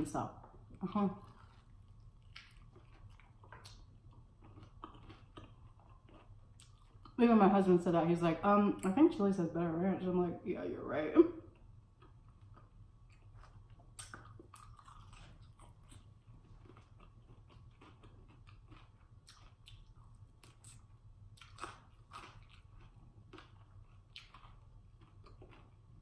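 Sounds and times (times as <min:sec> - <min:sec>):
close chewing with mouth clicks: 0:00.5 - 0:07.2, 0:11.5 - 0:26.0.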